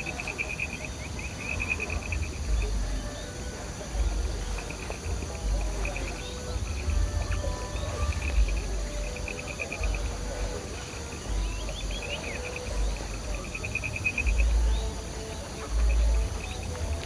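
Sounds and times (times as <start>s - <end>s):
insects trilling: 0.0s - 17.0s
wind buffeting microphone: 0.0s - 17.0s.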